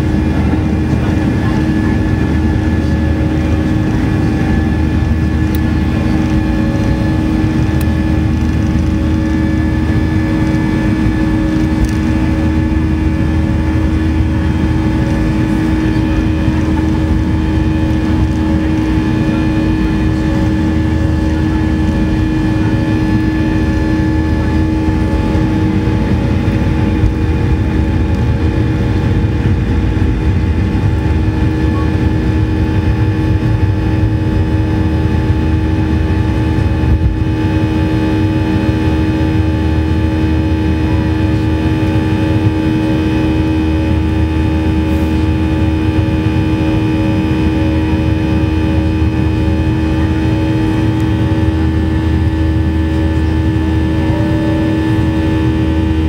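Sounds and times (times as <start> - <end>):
jet engine roaring with whine: 0.0 - 56.0.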